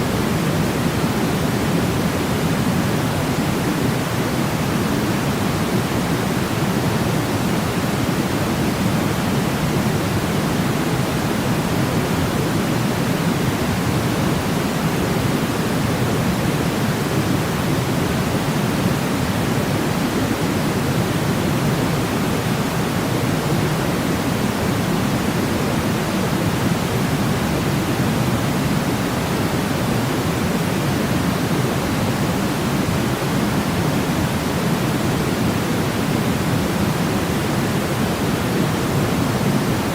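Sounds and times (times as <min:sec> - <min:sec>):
deep white noise hiss: 0:00.0 - 0:39.9.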